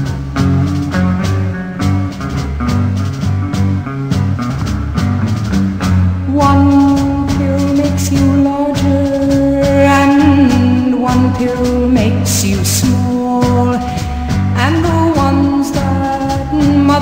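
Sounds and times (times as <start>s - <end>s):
music with bass and beat: 0.0s - 17.0s.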